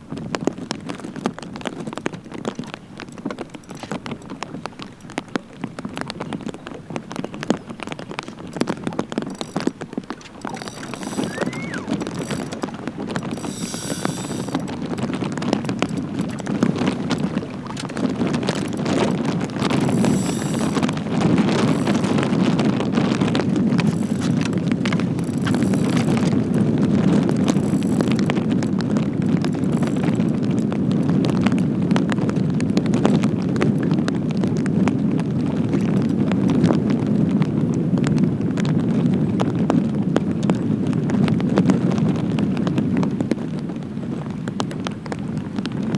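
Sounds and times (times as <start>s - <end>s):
small ticks and pattering: 0.0s - 37.3s
wind buffeting microphone: 0.0s - 45.9s.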